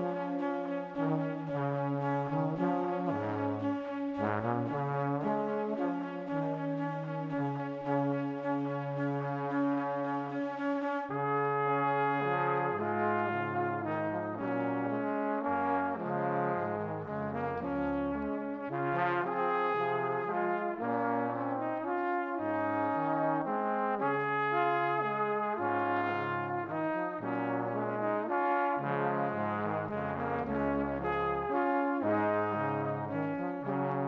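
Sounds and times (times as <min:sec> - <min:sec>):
brass playing held chords: 0:00.0 - 0:34.0.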